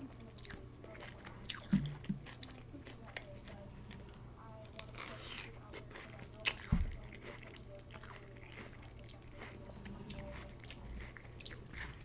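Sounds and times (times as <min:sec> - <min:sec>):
crunching and chewing food: 0:00.0 - 0:12.0.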